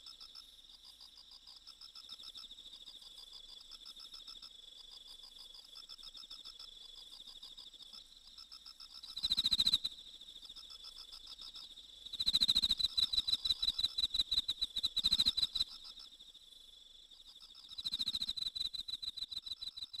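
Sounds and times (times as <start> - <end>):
rapid pulsed cricket chirping: 0.0 - 20.0.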